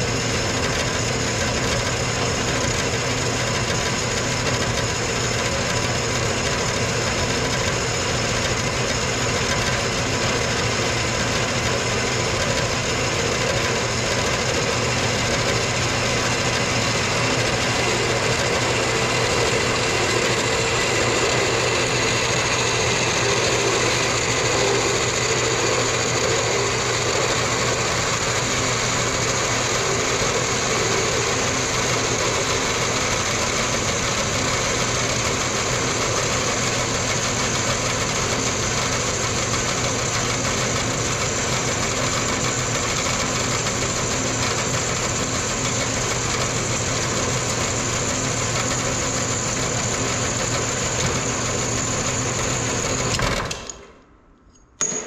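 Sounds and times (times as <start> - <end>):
bandsaw cutting metal bar: 0.0 - 53.8.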